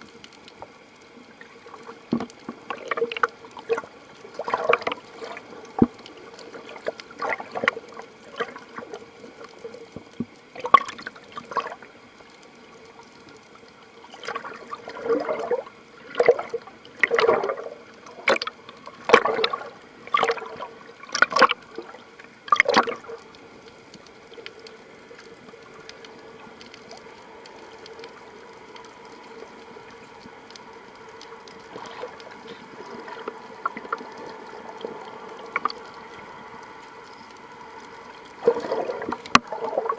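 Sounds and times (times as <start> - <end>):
faint steady hum: 0.0 - 39.9
water sloshing and gurgling: 0.0 - 39.9.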